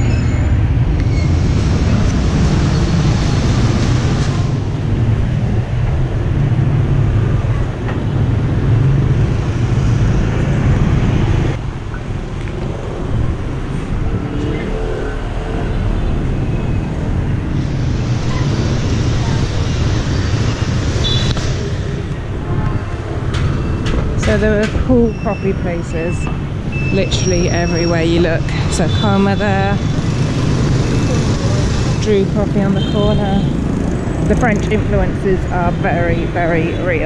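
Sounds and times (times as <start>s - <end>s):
motor scooters and cars passing: 0.0s - 37.0s.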